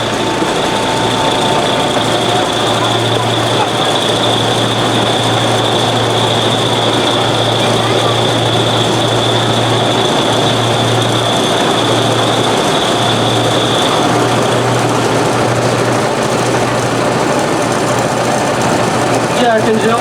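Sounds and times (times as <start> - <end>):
thin high whine: 0.0 - 18.3
miniature train engine drone: 0.0 - 20.0
train cars rolling on track: 0.0 - 20.0.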